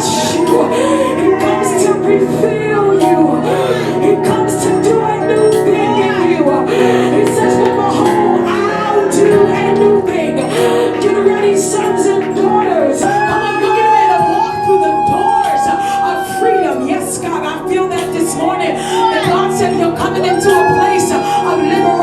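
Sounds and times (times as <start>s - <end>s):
person singing: 0.0s - 22.0s
sustained keyboard chords: 0.0s - 22.0s.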